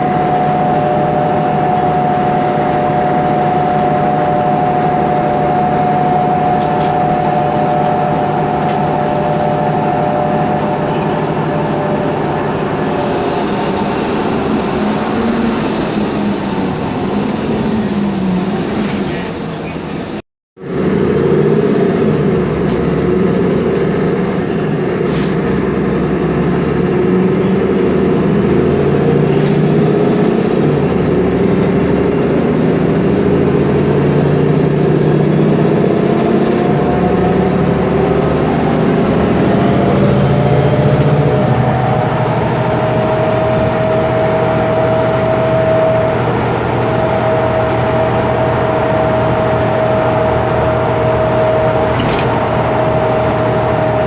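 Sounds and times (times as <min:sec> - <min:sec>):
thin differential whine: 0:00.0 - 0:18.1, 0:25.6 - 0:54.0
diesel bus engine running: 0:00.0 - 0:54.0.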